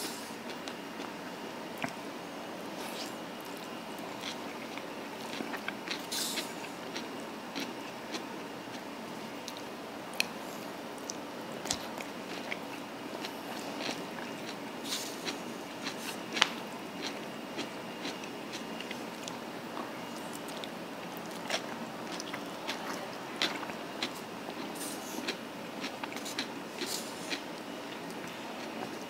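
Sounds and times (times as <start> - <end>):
steady background noise: 0.0 - 29.0
person chewing: 2.8 - 8.8, 9.4 - 29.0.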